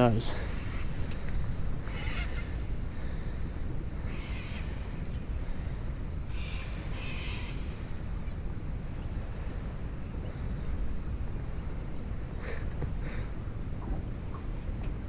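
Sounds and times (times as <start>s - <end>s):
bird calling: 0.0s - 15.0s
wind rumbling on microphone: 0.0s - 15.0s.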